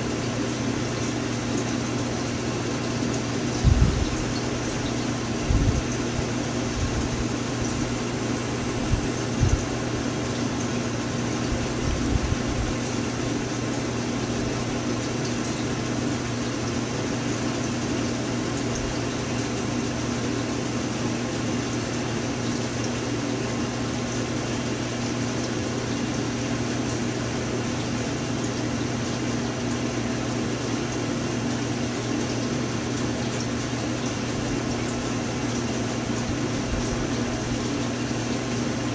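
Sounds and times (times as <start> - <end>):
mechanical hum with hiss: 0.0 - 38.9.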